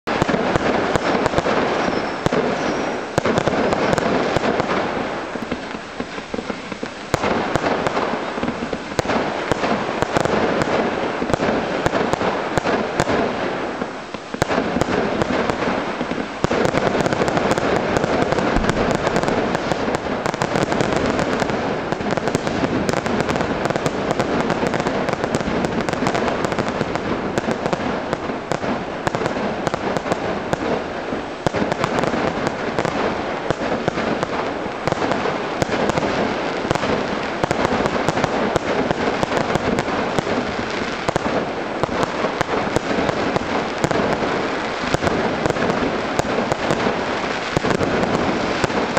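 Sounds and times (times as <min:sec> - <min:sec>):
fireworks crackling and banging: 0:00.0 - 0:48.9.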